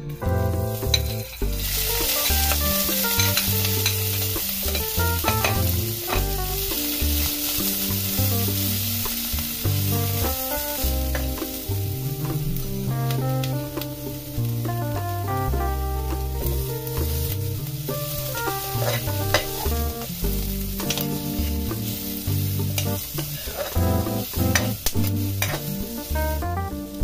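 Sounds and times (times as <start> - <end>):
peppers sizzling in hot oil: 0.4 - 27.0.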